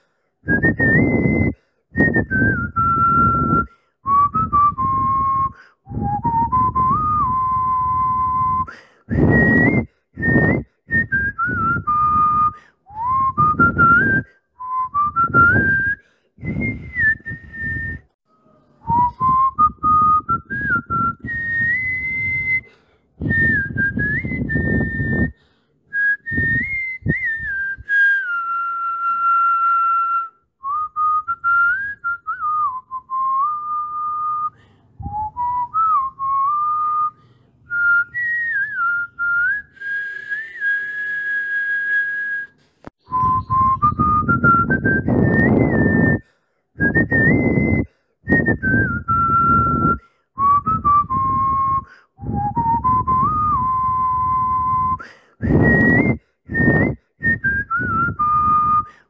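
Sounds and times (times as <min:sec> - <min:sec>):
person whistling a tune: 0:00.4 - 0:18.2, 0:18.8 - 0:59.0.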